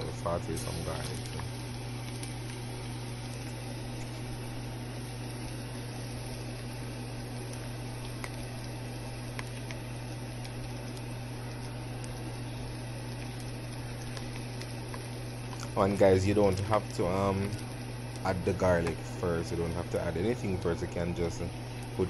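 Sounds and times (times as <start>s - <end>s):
garlic sizzling in hot oil: 0.0s - 22.0s
low hum: 0.0s - 22.0s.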